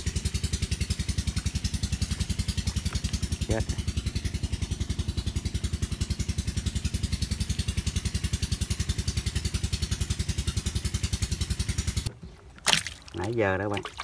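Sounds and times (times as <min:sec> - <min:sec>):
small engine idling: 0:00.0 - 0:14.0.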